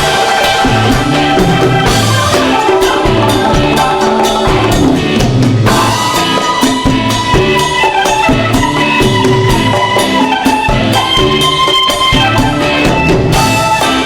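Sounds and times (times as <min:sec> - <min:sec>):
drum kit steady beat: 0:00.0 - 0:14.0
organ chords: 0:00.0 - 0:14.0.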